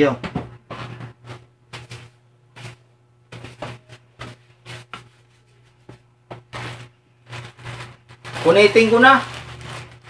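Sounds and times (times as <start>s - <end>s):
paper packaging rustling: 1.3s - 5.8s, 6.4s - 10.0s.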